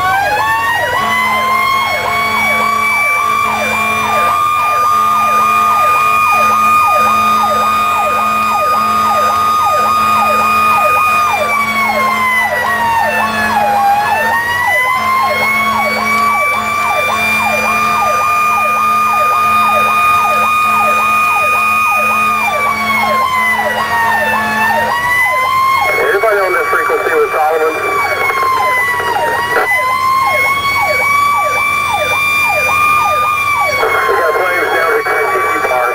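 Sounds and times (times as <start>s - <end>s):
electronic siren yelping: 0.0s - 35.9s
steady high siren tone: 0.0s - 35.9s.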